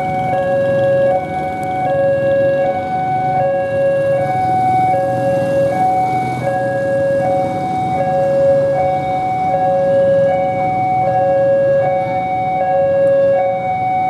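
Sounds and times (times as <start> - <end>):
level crossing two-tone alarm: 0.0 - 14.0.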